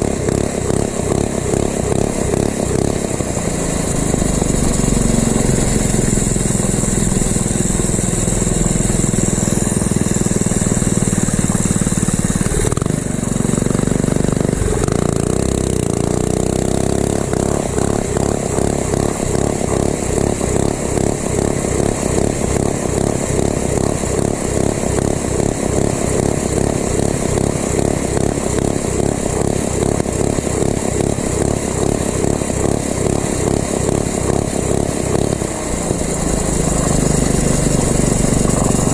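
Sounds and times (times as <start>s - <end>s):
small motorbike engine running: 0.0s - 38.9s.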